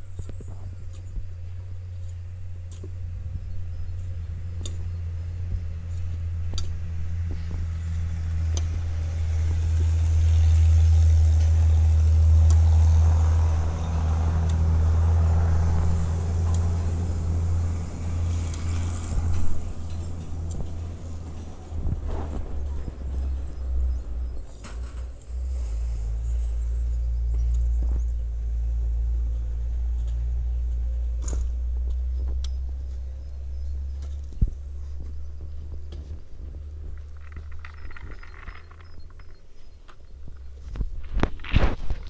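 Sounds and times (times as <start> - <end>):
vehicle engine hum: 0.0 - 42.0.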